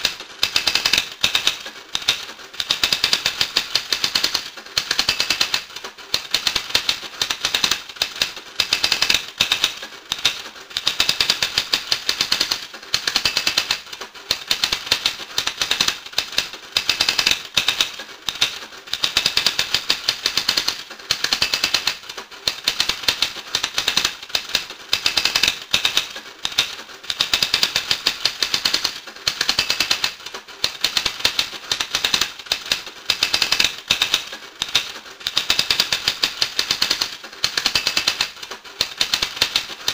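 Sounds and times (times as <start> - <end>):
rapid mechanical clicking: 0.0 - 39.9.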